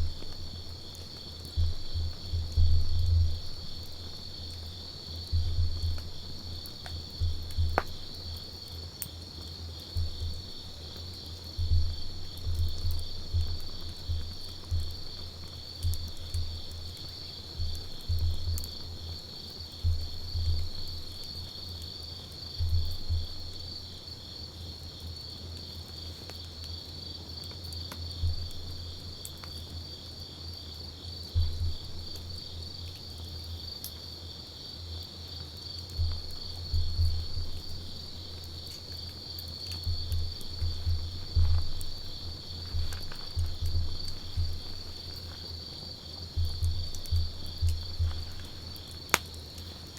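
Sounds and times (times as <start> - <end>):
campfire crackling: 0.0 - 34.4, 35.0 - 49.9
crickets chirring: 0.0 - 49.9.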